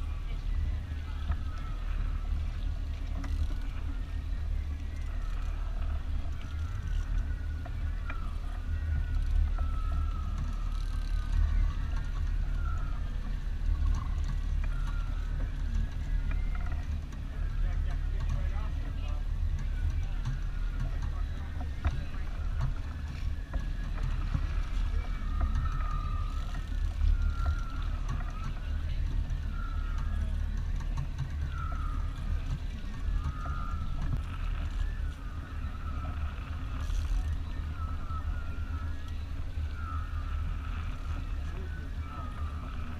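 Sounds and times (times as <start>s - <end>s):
boat engine rumbling: 0.0s - 42.9s
thin wavering whines: 0.0s - 42.9s
wind noise on microphone: 0.0s - 42.9s.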